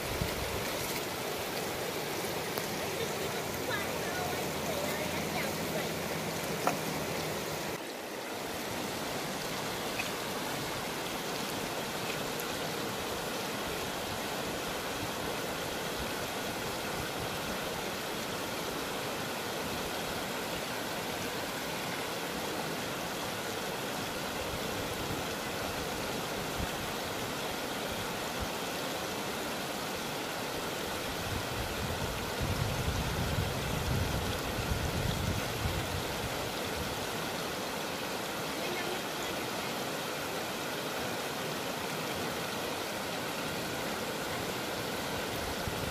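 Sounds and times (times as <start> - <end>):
river rapids rushing over rocks: 0.0 - 45.9.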